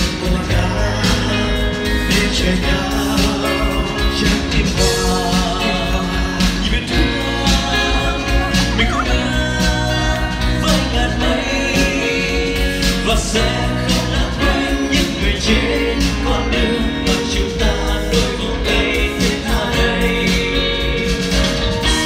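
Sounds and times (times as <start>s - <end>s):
electric guitar: 0.0s - 22.0s
group singing: 0.0s - 22.0s
steady beat: 0.0s - 22.0s.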